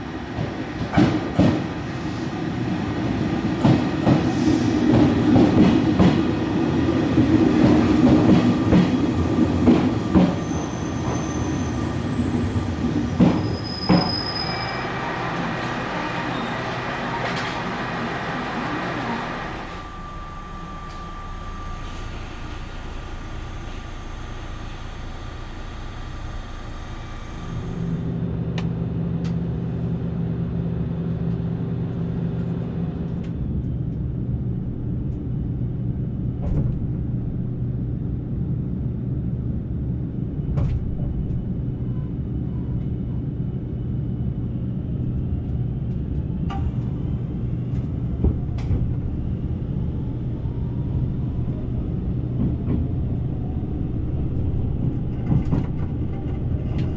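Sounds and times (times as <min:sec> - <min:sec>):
electric train rumbling: 0:00.0 - 0:56.9.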